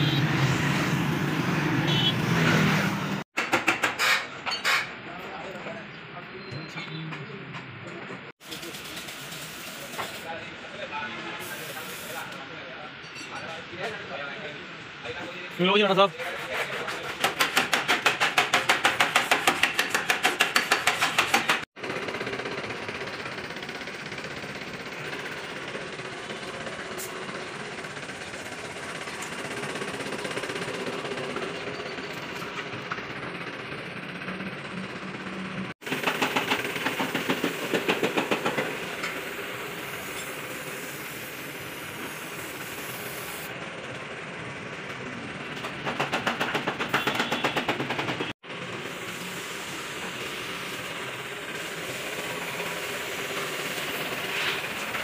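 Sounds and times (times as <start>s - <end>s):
road traffic hum: 0.0s - 55.0s
workshop background noise: 0.0s - 55.0s.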